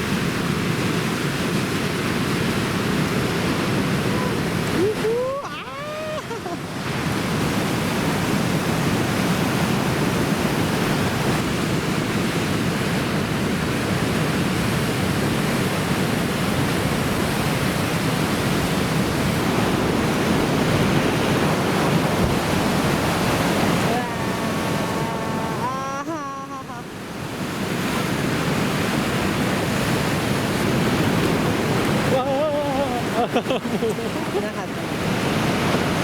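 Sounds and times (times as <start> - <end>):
ocean surf roaring: 0.0 - 36.0.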